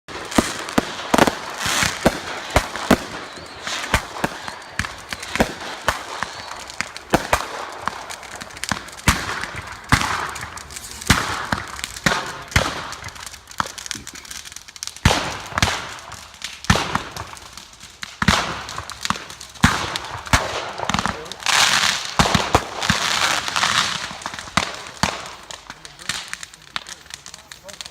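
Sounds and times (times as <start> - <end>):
fireworks bangs: 0.1 - 27.9
hissing crackle: 0.1 - 27.9.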